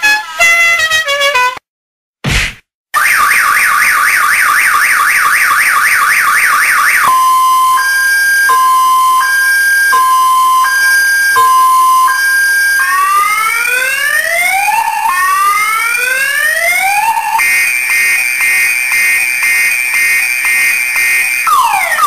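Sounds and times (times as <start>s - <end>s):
car alarm siren: 3.0s - 22.0s.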